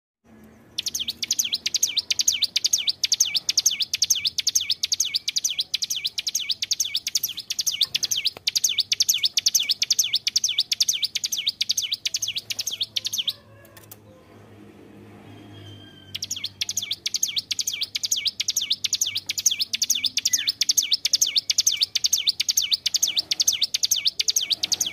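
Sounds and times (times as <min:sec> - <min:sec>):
bird singing high chirping notes: 0:00.5 - 0:13.4, 0:15.2 - 0:24.9.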